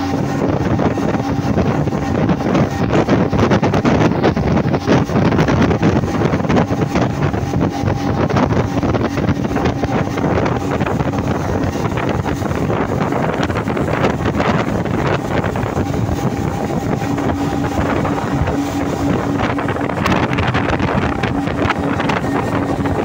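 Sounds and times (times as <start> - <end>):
outboard engine humming: 0.0 - 23.0
water rushing in boat wake: 0.0 - 23.0
wind buffeting microphone: 0.0 - 23.0.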